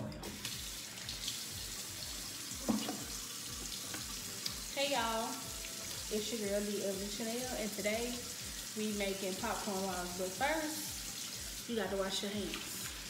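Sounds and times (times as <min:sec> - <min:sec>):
faucet water running into sink: 0:00.1 - 0:13.0.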